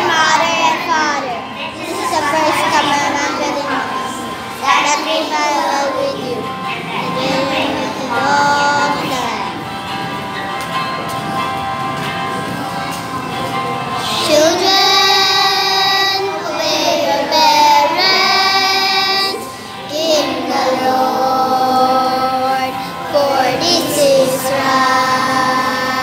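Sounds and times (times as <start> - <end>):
young children singing: 0.0 - 9.7, 13.7 - 26.0.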